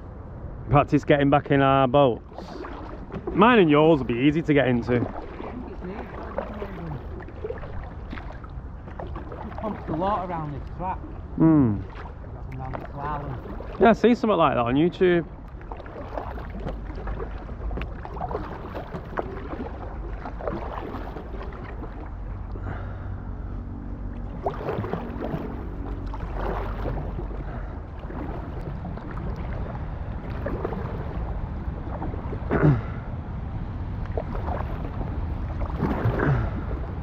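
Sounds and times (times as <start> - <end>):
wind rumble on microphone: 0.0 - 37.0
paddle splashing in water: 2.2 - 23.2, 24.0 - 33.0, 33.8 - 37.0.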